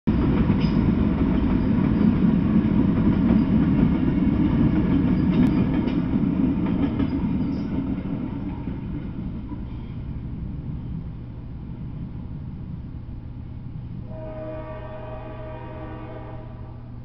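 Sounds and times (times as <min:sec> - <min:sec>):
diesel locomotives rumbling past: 0:00.1 - 0:17.0.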